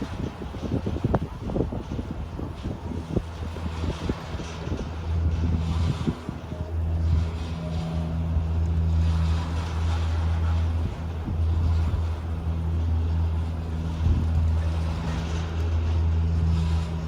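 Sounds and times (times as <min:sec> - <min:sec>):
gondola mechanical hum: 0:00.0 - 0:17.0.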